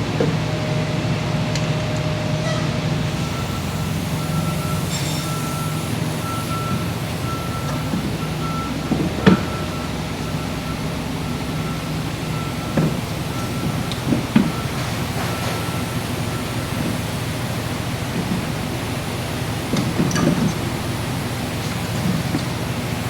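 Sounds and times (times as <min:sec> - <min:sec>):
vehicle reversing alarm beeping: 0:02.9 - 0:23.0.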